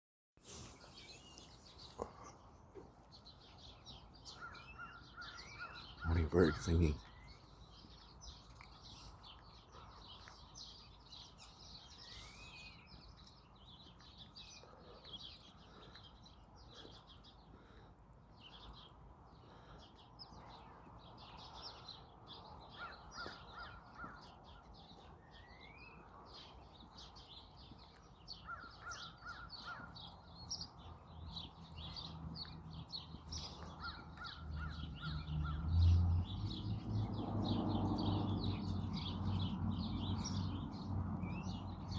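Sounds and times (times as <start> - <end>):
songbirds chirping and singing: 0.4 - 41.9.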